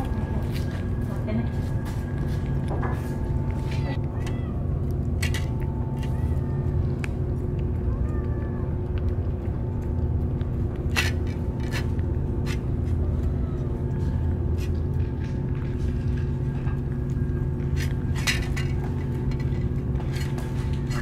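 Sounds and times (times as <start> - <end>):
cat chewing and licking: 0.0 - 21.0
steady low rumble: 0.0 - 21.0.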